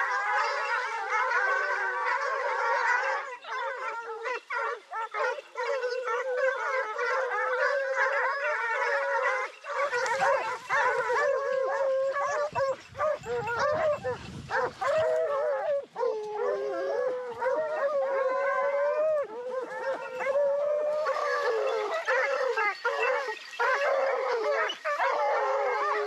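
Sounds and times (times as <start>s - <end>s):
pack of hounds baying: 0.0s - 26.0s.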